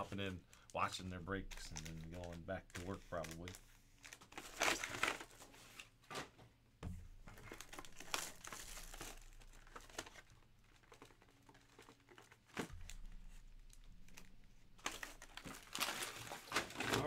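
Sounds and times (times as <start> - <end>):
foil and paper crinkling and tearing: 0.0 - 5.9, 7.4 - 17.0.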